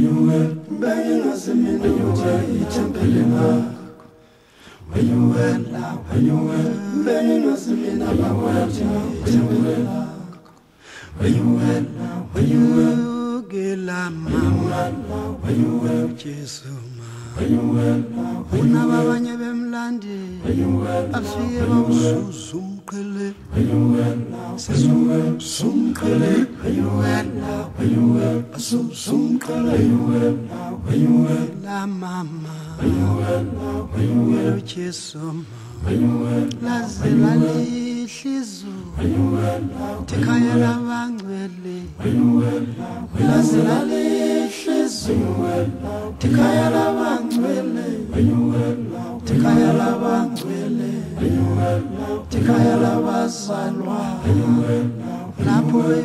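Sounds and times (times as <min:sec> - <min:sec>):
a cappella group singing: 0:00.0 - 0:56.0.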